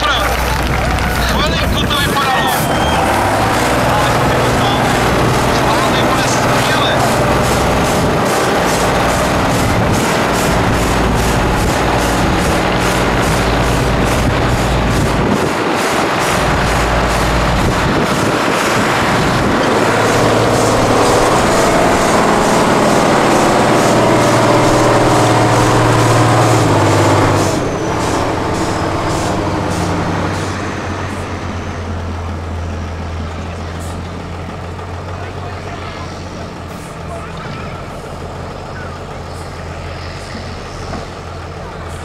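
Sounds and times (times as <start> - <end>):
truck diesel engine working hard: 0.0 - 42.0.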